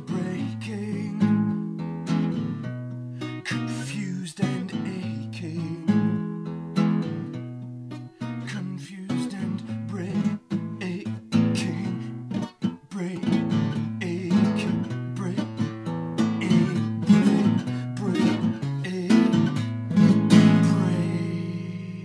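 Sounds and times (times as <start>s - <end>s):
lap-style acoustic guitar: 0.0s - 22.0s.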